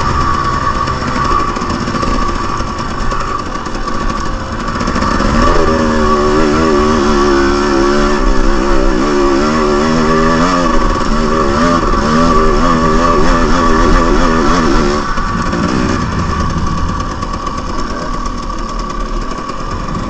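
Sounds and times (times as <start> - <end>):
dirt bike engine: 0.0 - 20.0.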